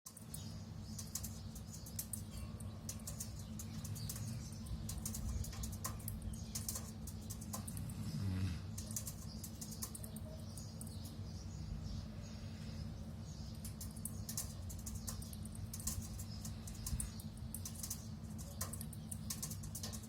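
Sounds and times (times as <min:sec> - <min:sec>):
birds chirping: 0:00.1 - 0:20.0
low steady rumble: 0:00.1 - 0:20.0.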